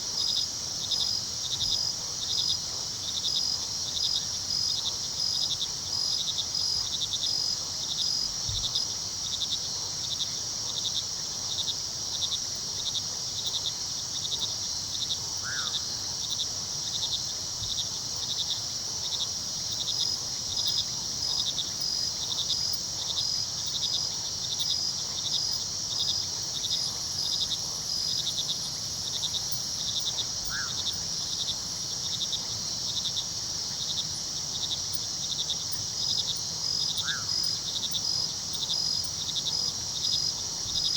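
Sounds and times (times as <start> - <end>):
crickets chirping: 0.0 - 40.9
high insect trill: 0.1 - 40.9.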